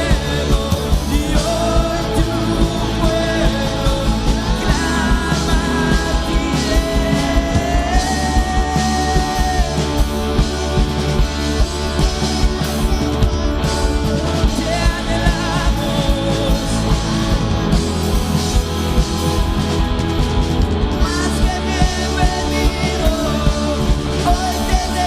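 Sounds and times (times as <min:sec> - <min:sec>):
person singing: 0:00.0 - 0:17.9, 0:21.0 - 0:25.0
band playing music: 0:00.0 - 0:25.0
steady drum beat: 0:00.0 - 0:25.0.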